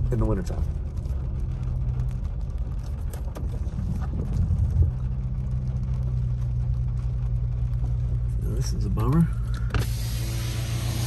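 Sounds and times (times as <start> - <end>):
car engine idling: 0.0 - 11.0
low rumble: 0.0 - 11.0
raindrops tapping on car roof: 0.0 - 11.0.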